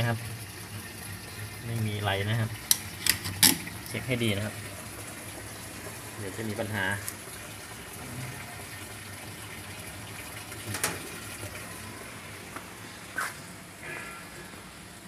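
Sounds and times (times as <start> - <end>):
water rushing into washing machine: 0.0 - 13.5.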